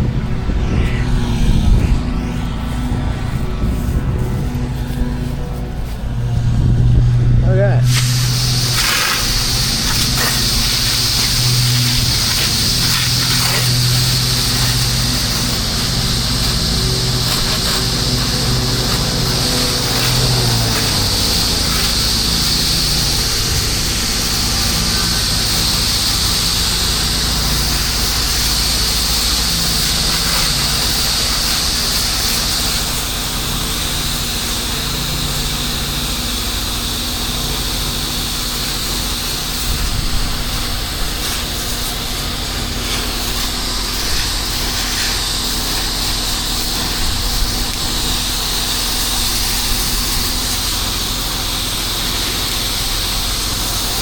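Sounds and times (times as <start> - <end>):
engine drone: 0.0 - 54.0
water spraying hiss: 7.8 - 54.0.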